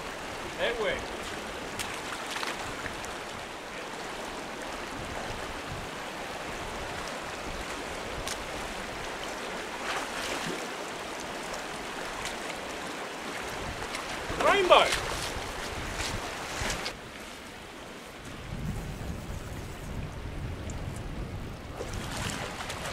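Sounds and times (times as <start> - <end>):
stream rushing over stones: 0.0 - 18.4, 21.6 - 22.9.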